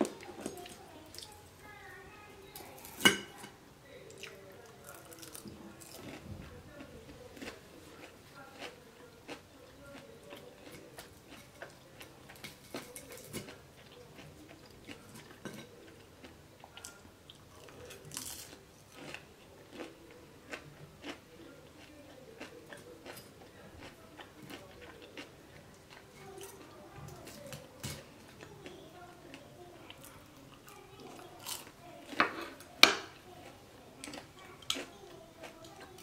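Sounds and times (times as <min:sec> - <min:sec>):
person chewing crunchy food: 0:04.2 - 0:06.3, 0:07.4 - 0:36.0.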